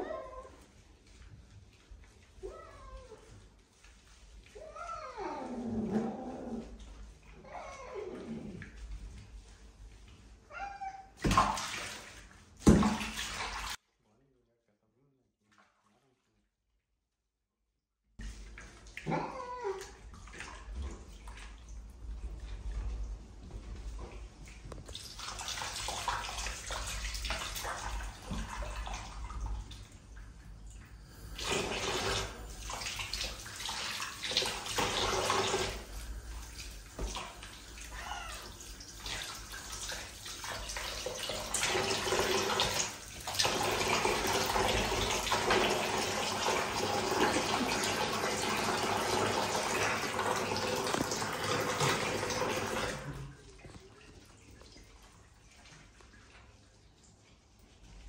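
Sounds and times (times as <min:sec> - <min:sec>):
tap water running into bathtub: 0:00.0 - 0:13.8, 0:18.2 - 0:58.0.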